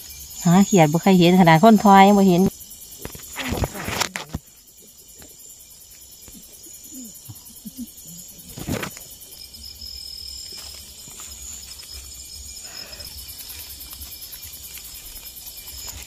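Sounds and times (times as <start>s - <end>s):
crickets trilling: 0.0s - 16.0s
rustle of grass and leaves: 1.9s - 16.0s.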